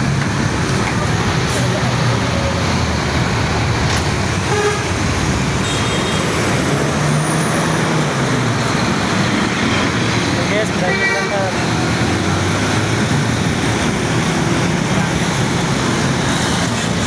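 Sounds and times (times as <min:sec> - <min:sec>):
buses passing: 0:00.0 - 0:17.0.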